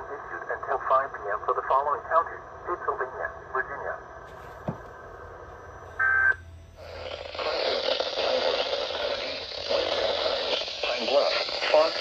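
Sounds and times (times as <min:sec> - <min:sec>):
radio static hiss: 0:00.0 - 0:05.5, 0:06.8 - 0:12.0.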